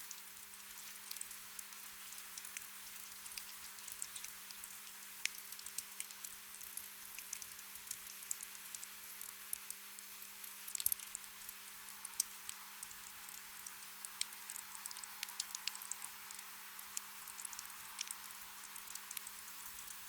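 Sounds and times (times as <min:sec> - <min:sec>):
gentle rain hiss: 0:00.0 - 0:20.0
raindrops ticking: 0:01.1 - 0:11.3, 0:12.0 - 0:20.0.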